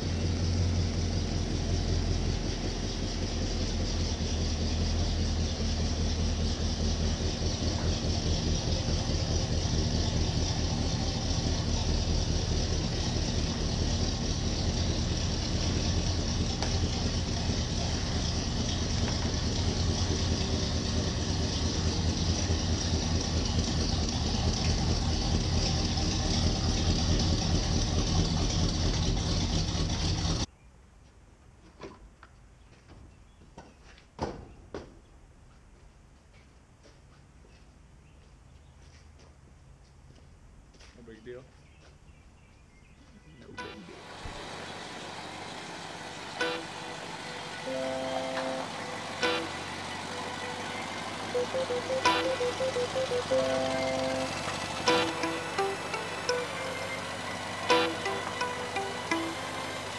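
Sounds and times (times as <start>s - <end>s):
truck engine running at low speed: 0.0s - 30.6s, 35.2s - 59.9s.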